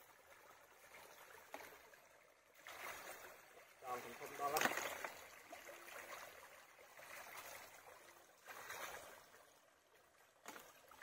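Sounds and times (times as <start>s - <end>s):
faint stream running water: 0.0s - 11.0s.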